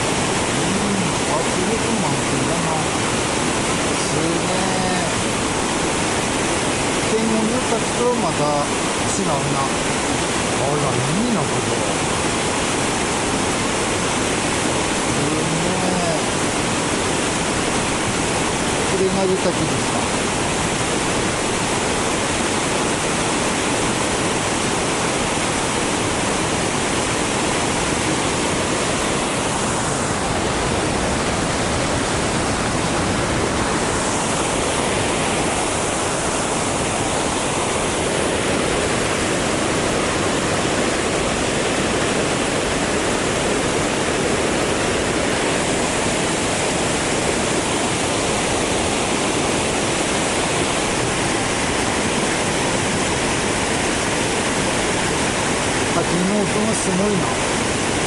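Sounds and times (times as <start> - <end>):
waterfall crashing: 0.0 - 58.0.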